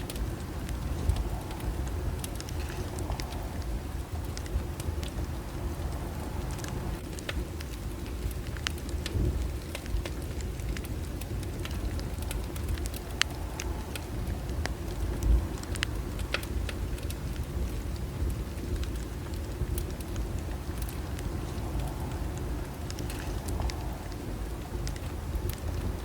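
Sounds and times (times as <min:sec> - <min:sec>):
burning wood crackling and popping: 0:00.0 - 0:26.0
low rumble of flames: 0:00.0 - 0:26.0.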